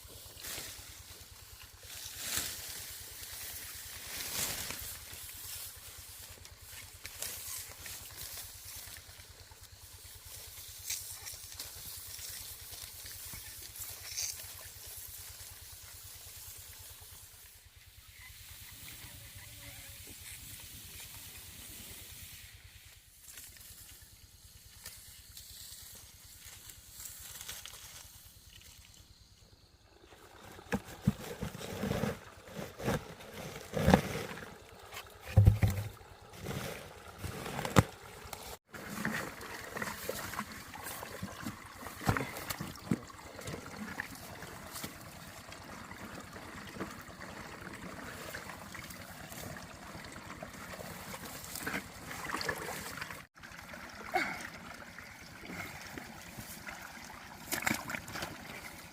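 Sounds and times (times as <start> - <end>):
water trickling and splashing: 0.0 - 24.8, 28.0 - 58.9.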